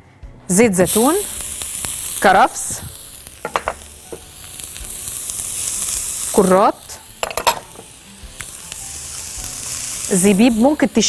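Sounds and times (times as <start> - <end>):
vegetables sizzling in oil: 0.5 - 11.0.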